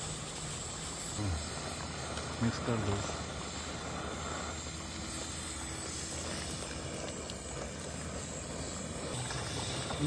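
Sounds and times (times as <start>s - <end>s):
pot cooking with steady hiss: 0.0s - 10.0s.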